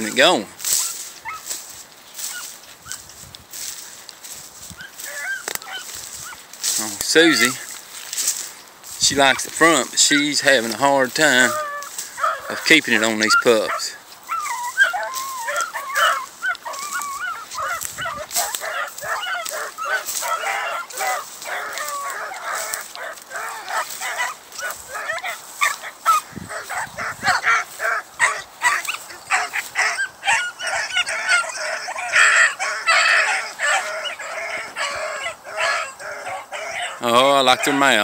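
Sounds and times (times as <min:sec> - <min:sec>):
hounds baying: 0:00.0 - 0:38.0.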